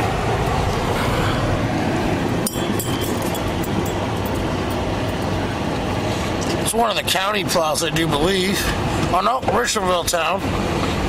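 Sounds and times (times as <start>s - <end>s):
car engine and tyres: 0.0s - 11.0s.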